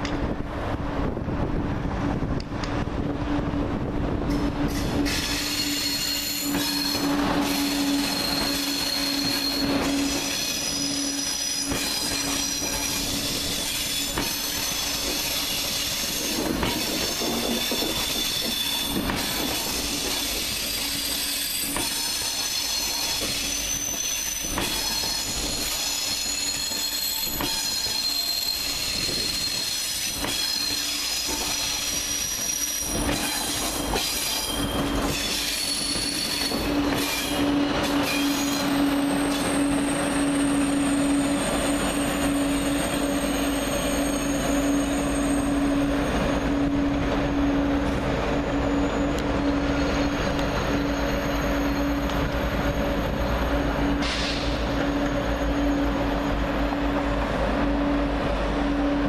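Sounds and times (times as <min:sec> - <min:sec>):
high-speed train rolling past: 0:00.0 - 0:59.0
train wheels squealing: 0:04.4 - 0:59.0.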